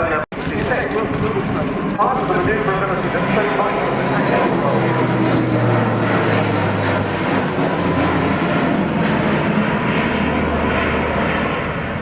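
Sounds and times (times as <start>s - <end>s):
turboprop aircraft flying low: 0.0s - 12.0s.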